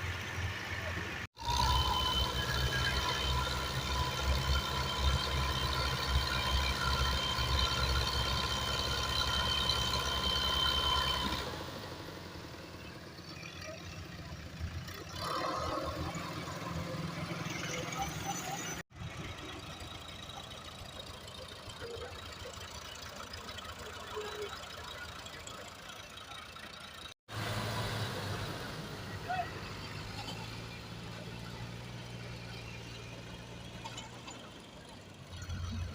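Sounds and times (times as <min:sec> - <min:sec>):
distant engine: 0:00.0 - 0:35.9
tractor engine running: 0:00.0 - 0:35.9.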